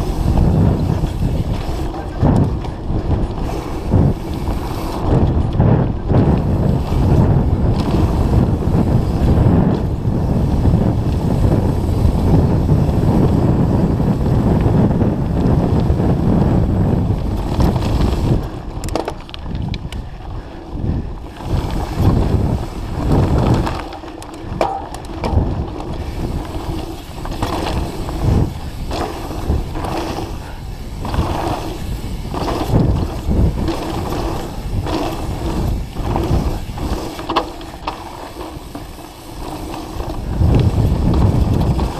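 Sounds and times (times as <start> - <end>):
bike chain and frame rattling: 0.0 - 41.9
bike tyres on dirt: 0.0 - 41.9
wind rushing over microphone: 0.0 - 41.9.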